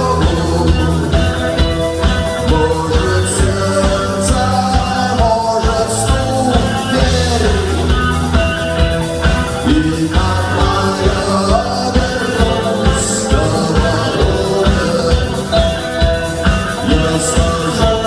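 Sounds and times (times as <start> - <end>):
rock song played by band: 0.0 - 18.0
steady drum beat: 0.0 - 18.0.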